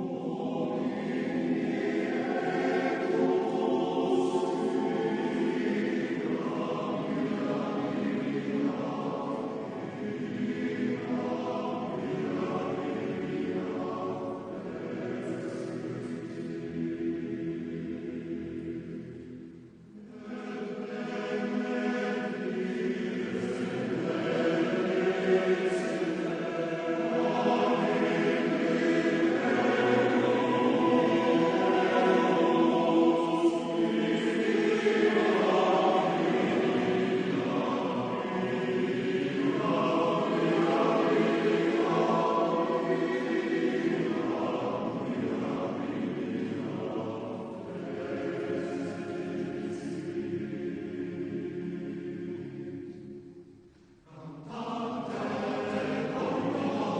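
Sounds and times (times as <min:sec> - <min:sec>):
men's chorus singing: 0:00.0 - 0:19.2, 0:20.0 - 0:53.2, 0:54.1 - 0:56.9.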